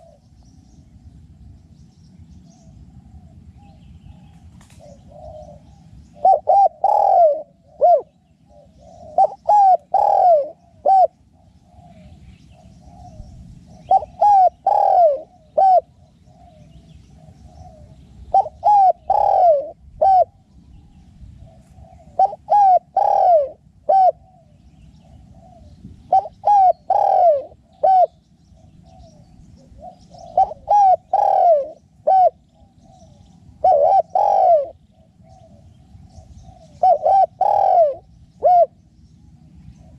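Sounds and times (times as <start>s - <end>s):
dove cooing: 0.0s - 0.4s, 2.6s - 38.8s.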